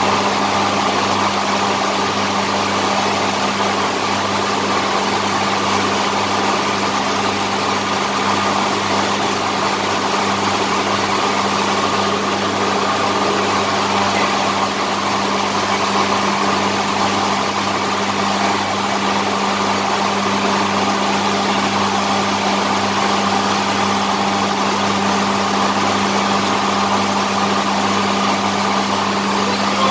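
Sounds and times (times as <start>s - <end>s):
machine droning with low hum: 0.0s - 29.9s.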